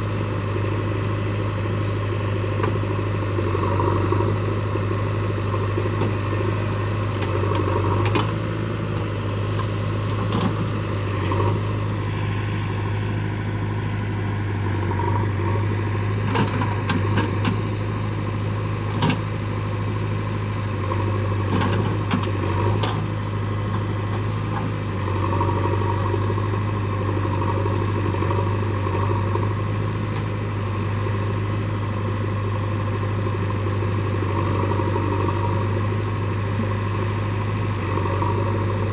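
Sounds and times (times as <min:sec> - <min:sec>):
diesel engine running at low revs: 0:00.0 - 0:38.9.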